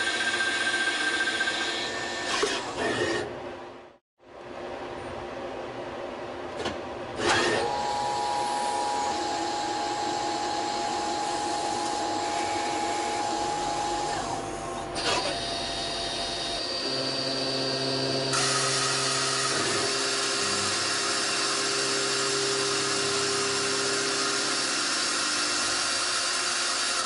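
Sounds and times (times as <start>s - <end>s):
lathe spindle whine: 0.0s - 3.2s, 7.6s - 27.0s.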